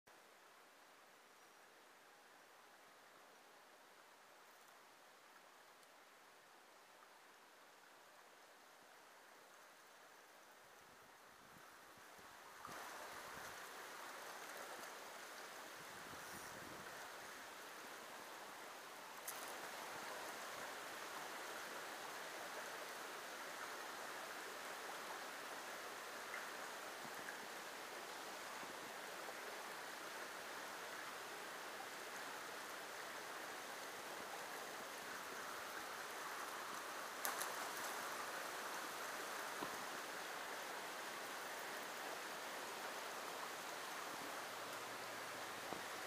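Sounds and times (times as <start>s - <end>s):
creek running over stones: 0.1s - 46.0s.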